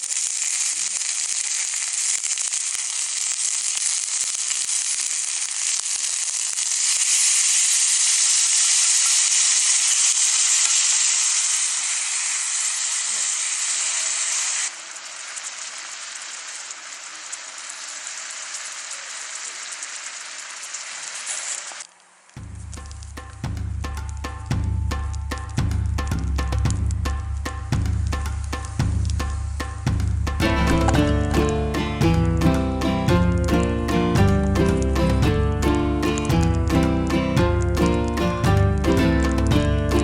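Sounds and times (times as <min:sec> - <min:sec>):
chicken sizzling in a pan: 0:00.0 - 0:40.0.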